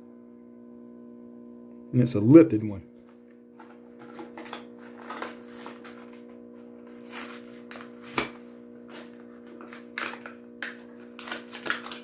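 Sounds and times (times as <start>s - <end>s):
turntable motor hum: 0.0s - 12.0s.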